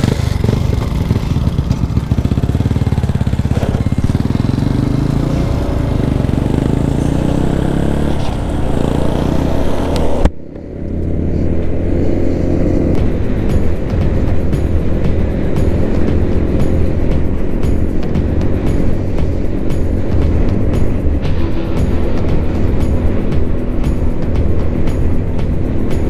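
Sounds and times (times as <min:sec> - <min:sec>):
small motorbike engine: 0:00.0 - 0:26.0.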